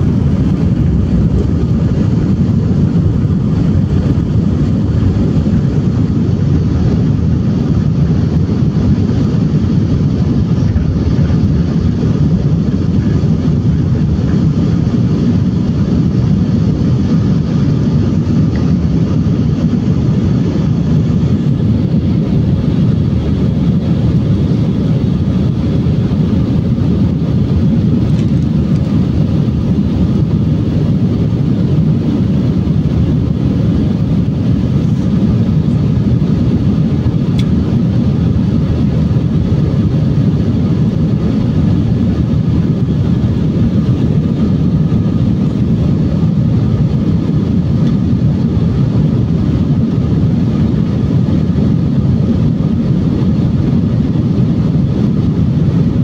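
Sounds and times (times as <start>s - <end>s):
jet engines and rushing air: 0.0s - 56.0s.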